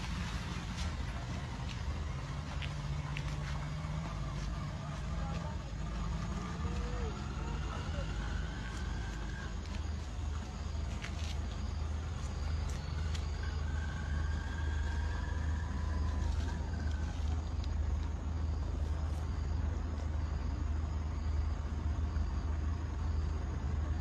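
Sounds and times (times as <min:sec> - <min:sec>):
motor vehicle rumble: 0:00.0 - 0:24.0
street noise: 0:00.0 - 0:24.0.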